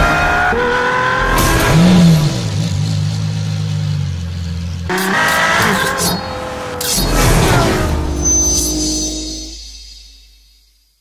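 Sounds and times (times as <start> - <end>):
car engine revving and idling: 0.0 - 9.6.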